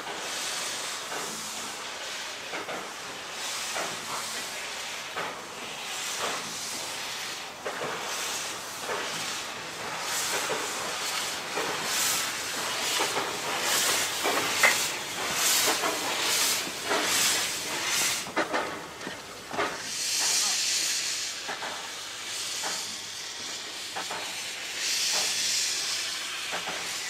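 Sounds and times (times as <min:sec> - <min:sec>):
loud steam hiss: 0:00.0 - 0:27.0
steam locomotive exhaust chuffs: 0:00.0 - 0:27.0.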